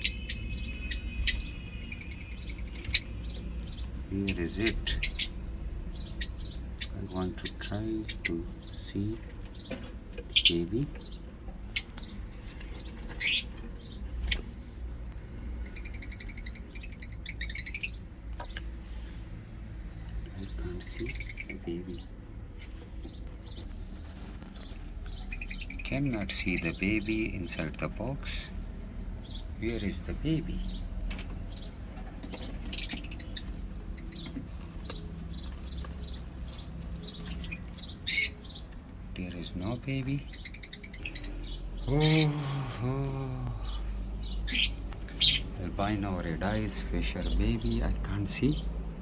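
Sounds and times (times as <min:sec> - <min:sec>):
lovebirds chirping: 0:00.0 - 0:49.0.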